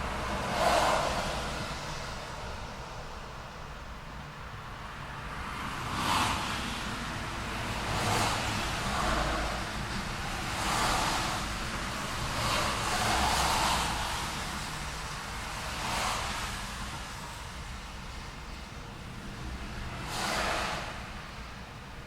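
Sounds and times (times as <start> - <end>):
cars passing: 0.0 - 22.0
traffic hiss of tyres and engines: 0.0 - 22.0.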